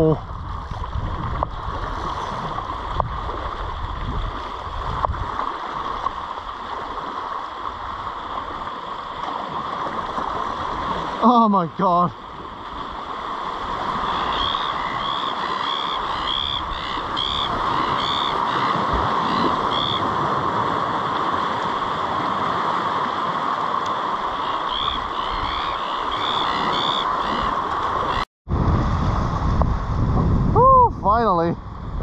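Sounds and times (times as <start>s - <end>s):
surf washing around rocks: 0.0s - 32.0s
wind: 0.0s - 32.0s.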